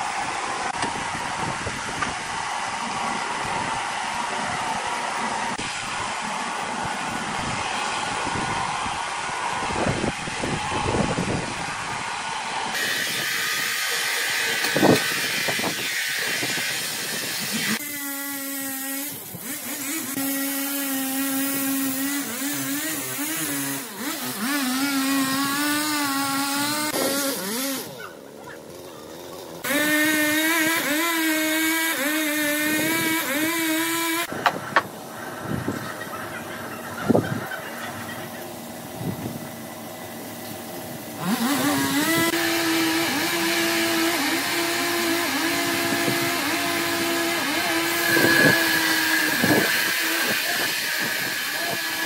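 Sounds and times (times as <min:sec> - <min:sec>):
band sawmill machinery whine: 0:00.0 - 0:52.0.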